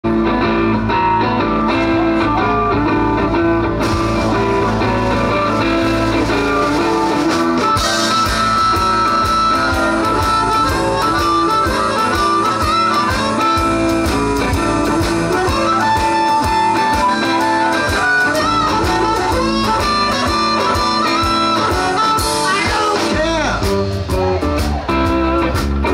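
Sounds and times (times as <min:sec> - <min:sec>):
electric guitars: 0:00.0 - 0:25.9
live rock band playing: 0:00.0 - 0:25.9
drum kit beat: 0:01.6 - 0:25.9.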